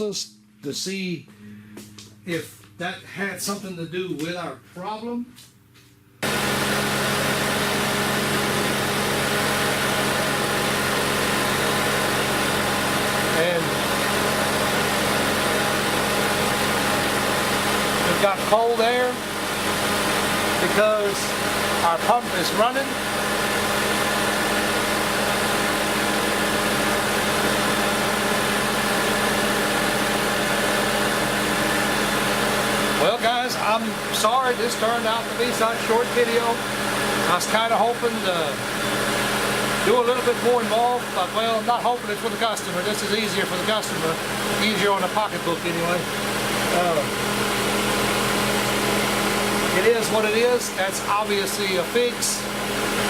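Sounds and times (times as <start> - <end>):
air conditioning fan blowing: 0.0 - 53.0.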